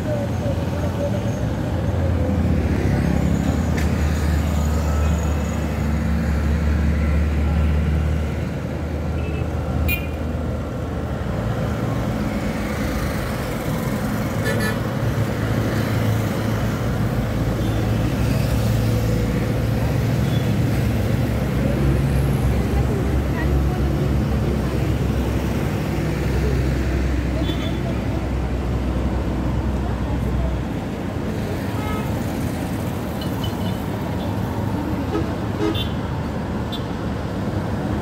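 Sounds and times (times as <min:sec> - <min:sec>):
road traffic engine drone: 0:00.0 - 0:38.0.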